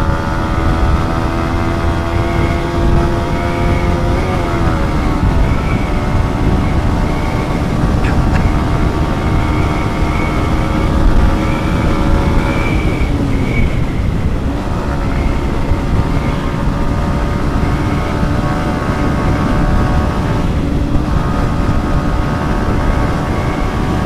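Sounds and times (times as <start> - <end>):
motorcycle engine at speed: 0.0 - 24.0
wind rumble on microphone: 0.0 - 24.0.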